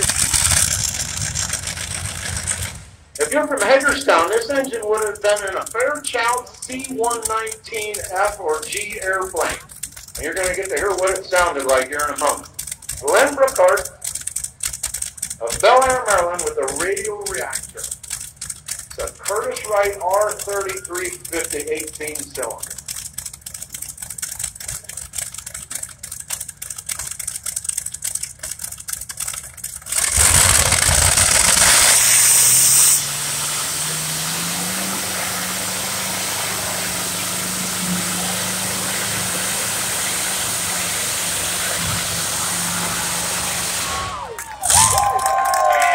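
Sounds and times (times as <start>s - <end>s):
radial aircraft engine roaring: 0.0s - 45.3s
engine popping: 0.0s - 45.9s.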